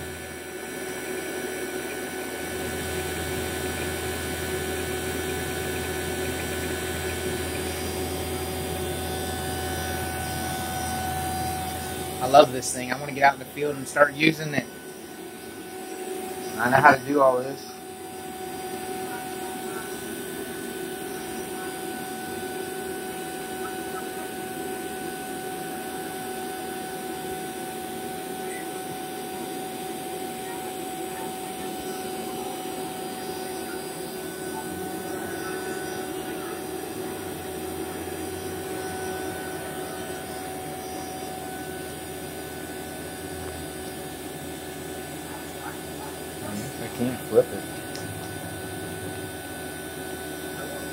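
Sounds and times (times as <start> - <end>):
vacuum pump humming: 0.0 - 50.9.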